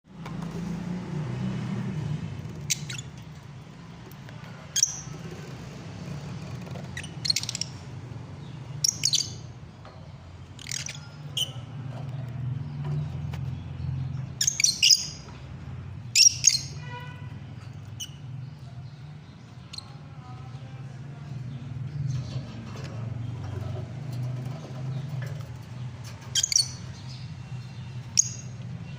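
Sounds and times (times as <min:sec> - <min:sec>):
birds chirping: 0:00.2 - 0:28.9.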